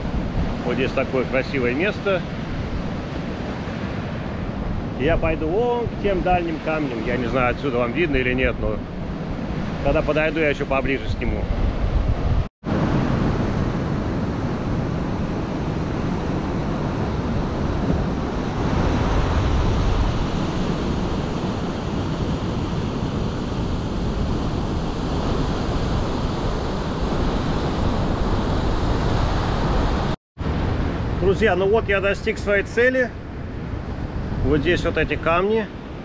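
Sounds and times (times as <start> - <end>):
ocean surf washing: 0.0 - 36.0
wind rumbling on microphone: 0.0 - 36.0.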